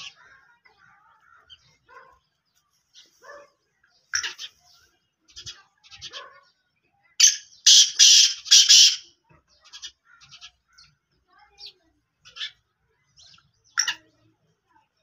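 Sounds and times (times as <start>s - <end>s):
bird harsh rasping calls: 0.0s - 2.2s, 2.9s - 11.0s, 11.6s - 14.2s
small birds chirping: 0.0s - 15.0s.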